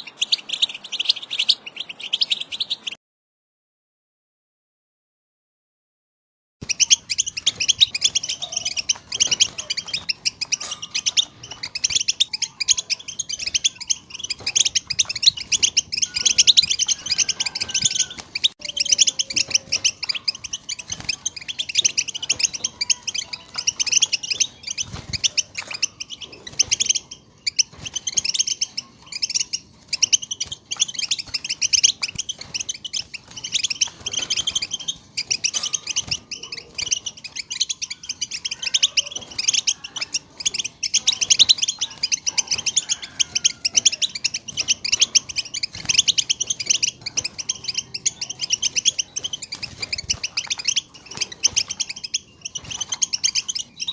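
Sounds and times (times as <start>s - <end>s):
finches twittering: 6.6s - 53.9s.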